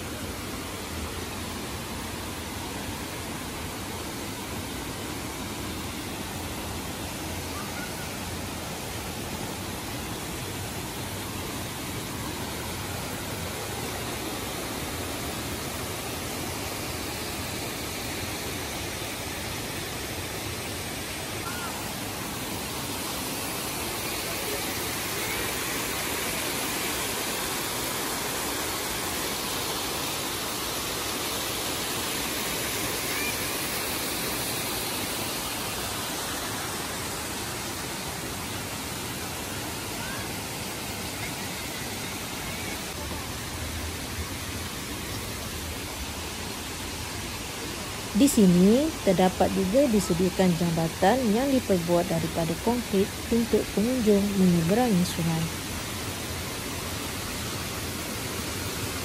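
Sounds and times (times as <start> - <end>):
waterfall pouring into pool: 0.0 - 48.2, 55.5 - 59.0.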